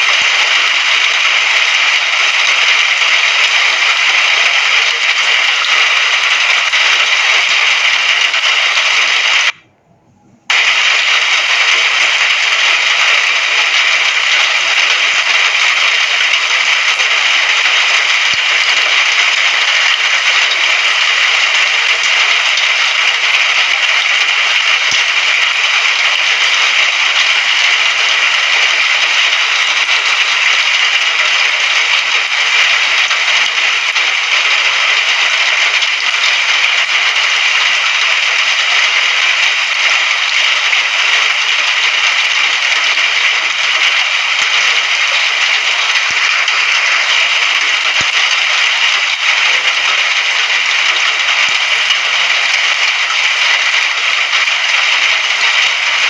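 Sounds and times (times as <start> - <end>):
steady rain falling: 0.0 - 9.6, 10.5 - 56.0.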